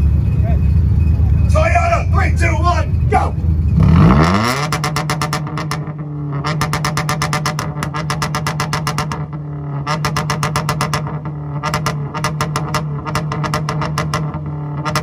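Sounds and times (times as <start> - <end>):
engine droning on rev limiter: 0.0 - 15.0
exhaust popping and crackling: 0.0 - 15.0.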